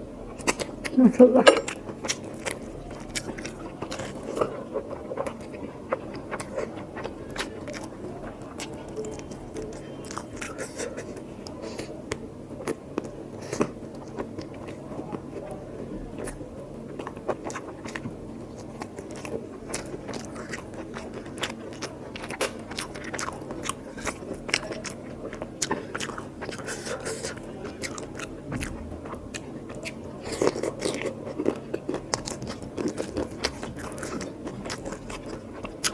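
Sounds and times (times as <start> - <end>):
person chewing: 0.0 - 15.5, 16.2 - 35.9.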